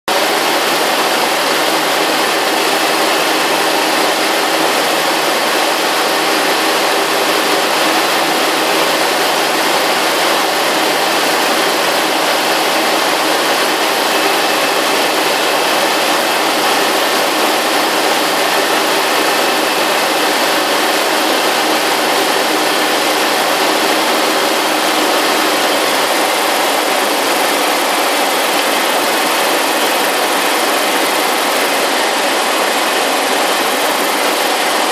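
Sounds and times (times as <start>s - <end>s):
light aircraft engine and propeller: 0.1s - 34.9s.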